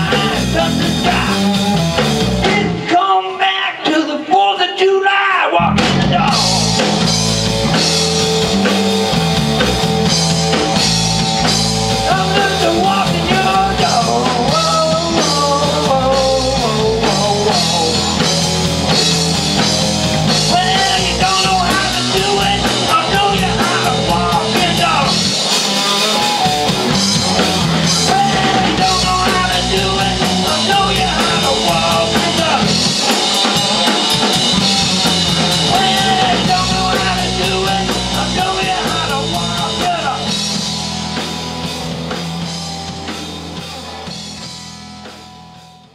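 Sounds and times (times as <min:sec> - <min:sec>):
electric bass: 0:00.0 - 0:03.0, 0:05.6 - 0:45.9
drum kit: 0:00.0 - 0:03.4, 0:05.6 - 0:45.9
live rock band playing: 0:00.0 - 0:04.8, 0:05.6 - 0:45.9.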